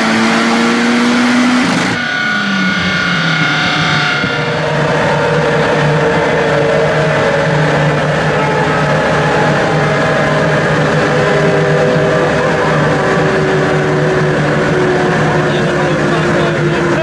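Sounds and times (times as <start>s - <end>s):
car engine running on dyno rollers: 0.0s - 17.0s.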